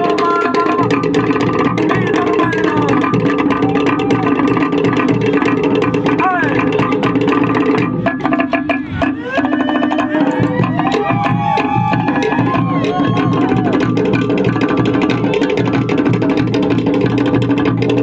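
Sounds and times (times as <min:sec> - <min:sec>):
fast percussion on wooden drums: 0:00.0 - 0:18.0.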